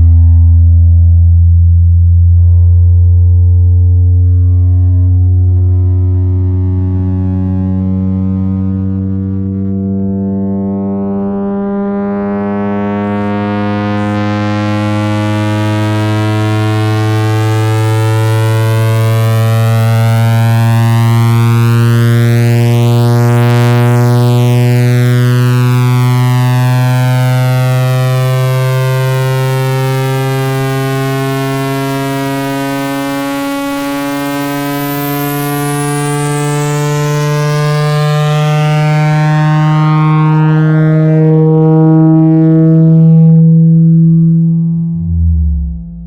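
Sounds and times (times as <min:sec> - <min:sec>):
low electronic buzzing hum: 0:00.0 - 0:46.0
rising and falling pitch sweeps: 0:00.0 - 0:46.0.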